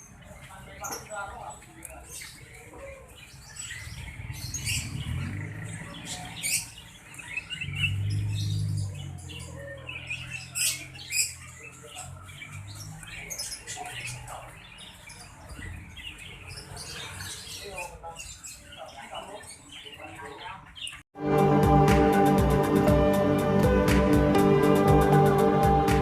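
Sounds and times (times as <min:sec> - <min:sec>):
bird chirping and trilling: 0:00.0 - 0:21.0.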